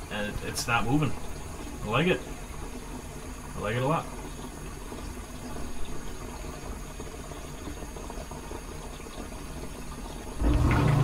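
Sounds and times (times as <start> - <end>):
water trickling into tank: 0.0 - 11.0.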